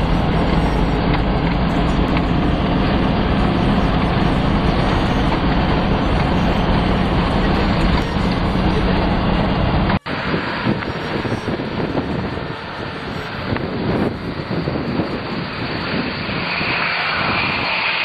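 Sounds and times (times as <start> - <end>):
off-road vehicle engine running: 0.0 - 18.0
road and wind noise: 0.0 - 18.0.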